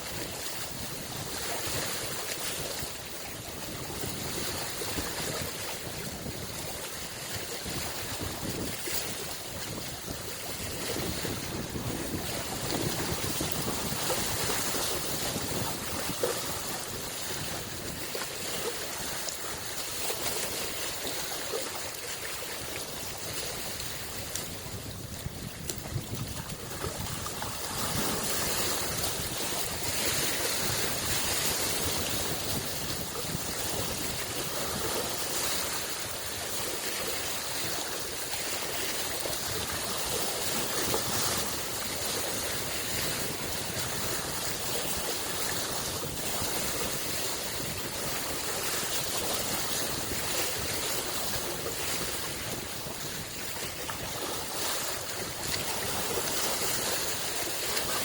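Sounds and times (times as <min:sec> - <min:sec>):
lake waves lapping on shore: 0:00.0 - 0:58.0.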